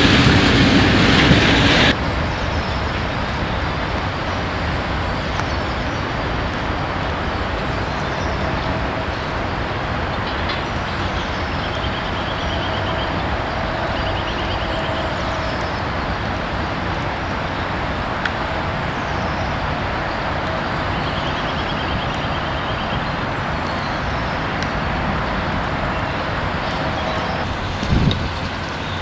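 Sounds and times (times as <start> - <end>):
train wagons rumbling: 0.0 - 29.0.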